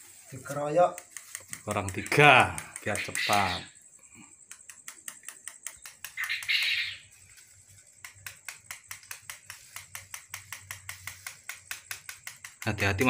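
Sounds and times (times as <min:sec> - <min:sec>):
soldering iron ticking on plastic: 0:00.4 - 0:03.7, 0:04.3 - 0:13.0.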